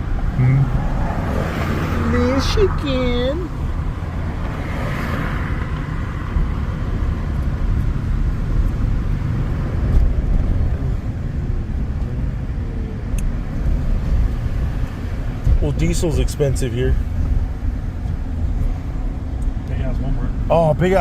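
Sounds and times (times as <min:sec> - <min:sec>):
road and engine rumble in cab: 0:00.0 - 0:21.0.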